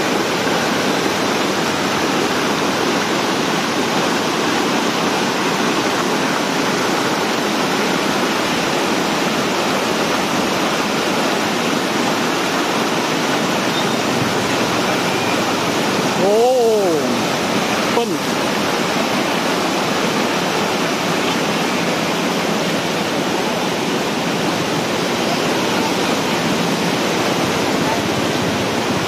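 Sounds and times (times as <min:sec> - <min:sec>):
floodwater rushing over dam: 0:00.0 - 0:29.0.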